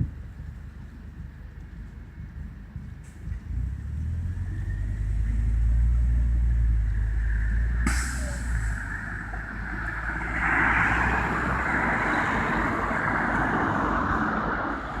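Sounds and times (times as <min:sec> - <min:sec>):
bus engine rumble: 0:00.0 - 0:15.0
road and tyre hiss: 0:00.0 - 0:15.0.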